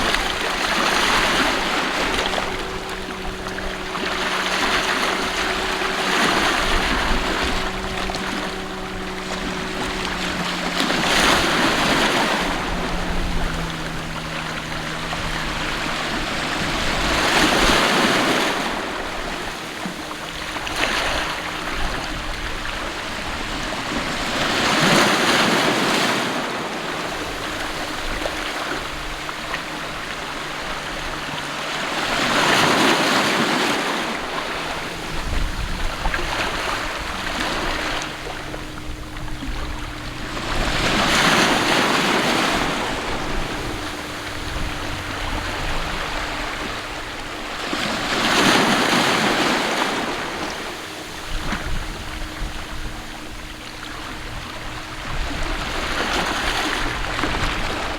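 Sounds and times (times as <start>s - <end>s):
faint low drone: 0.0s - 57.9s
sea waves washing in: 0.0s - 57.9s.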